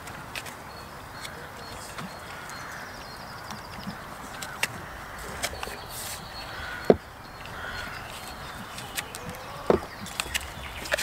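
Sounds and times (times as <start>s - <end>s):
goats chewing food: 0.0s - 11.0s
outdoor background noise: 0.0s - 11.0s.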